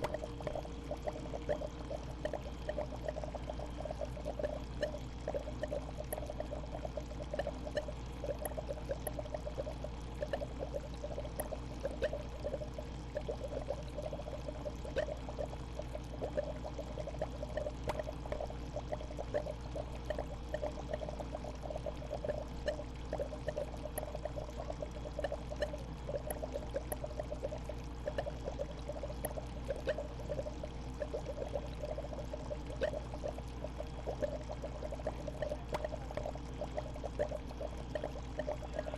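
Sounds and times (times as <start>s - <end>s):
aquarium water bubbling: 0.0s - 38.9s
steady low hum: 0.0s - 38.9s.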